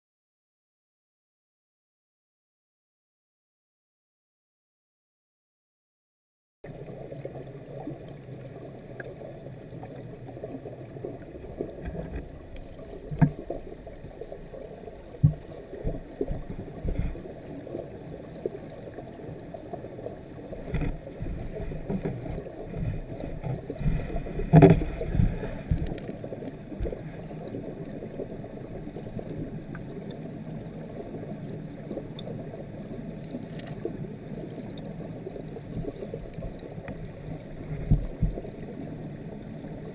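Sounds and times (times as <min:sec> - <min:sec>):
muffled stream water gurgling: 0:06.6 - 0:39.9.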